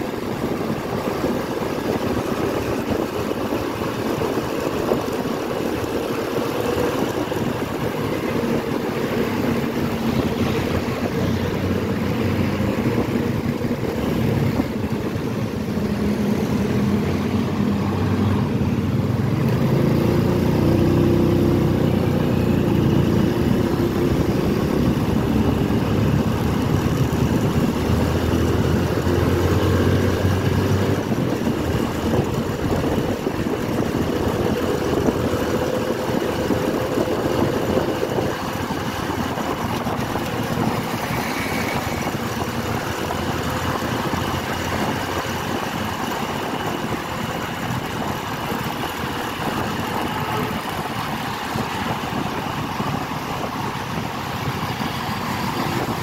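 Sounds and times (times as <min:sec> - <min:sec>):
motorcycle engine revving: 0:00.0 - 0:56.0
road noise: 0:00.0 - 0:56.0.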